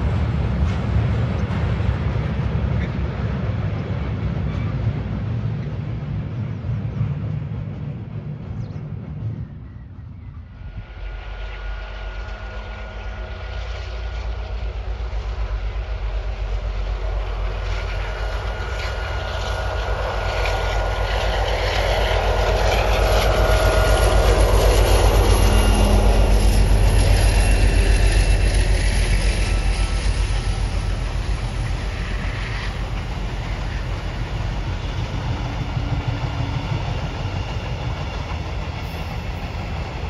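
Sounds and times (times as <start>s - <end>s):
diesel locomotive engine rumble: 0.0s - 40.0s
high engine whine: 0.0s - 40.0s.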